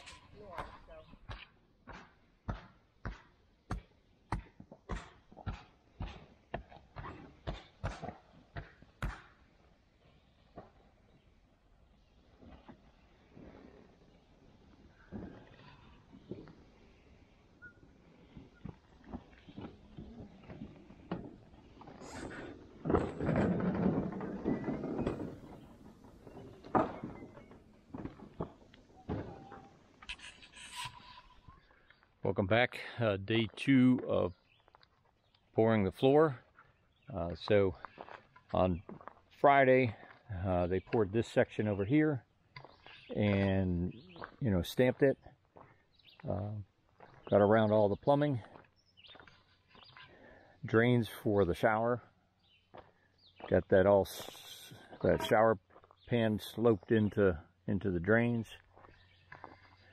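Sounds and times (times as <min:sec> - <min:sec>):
crunchy footsteps: 0:00.0 - 0:32.2, 0:34.0 - 0:59.9.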